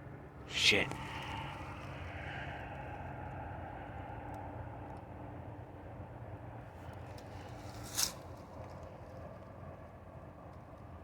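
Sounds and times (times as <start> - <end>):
faint low engine drone: 0.0 - 11.0.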